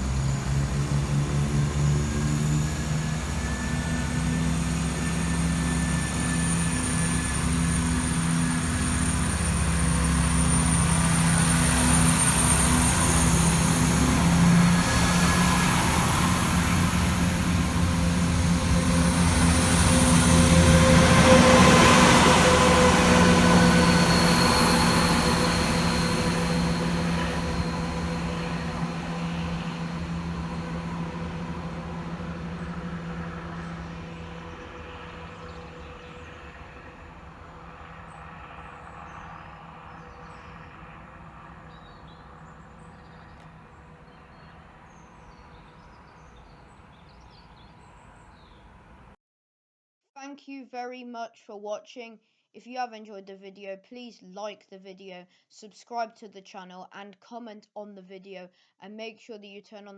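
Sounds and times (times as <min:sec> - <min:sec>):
faint high whines: 0:00.0 - 0:49.1
diesel train passing: 0:00.0 - 0:49.2.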